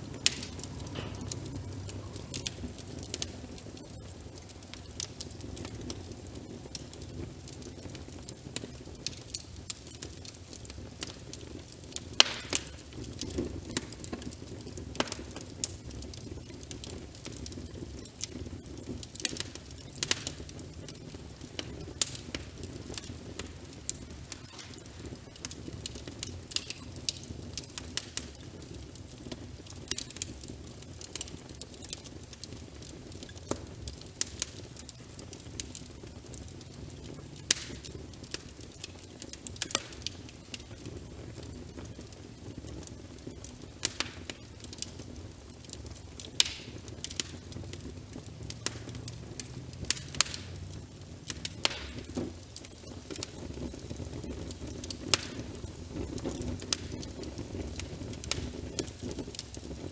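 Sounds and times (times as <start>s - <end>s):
rain: 0.0s - 59.9s
wood fire crackling and popping: 0.0s - 59.9s.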